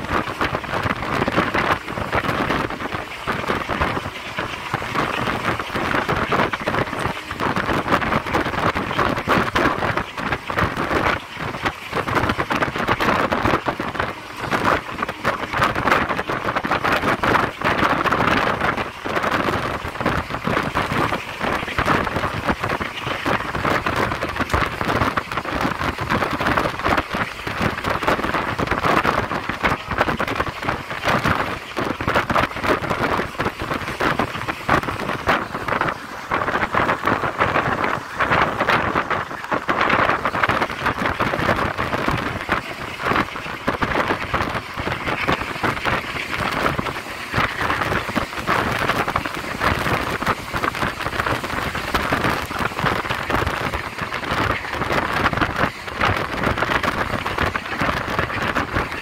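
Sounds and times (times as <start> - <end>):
train rushing and rattling: 0.0 - 59.0.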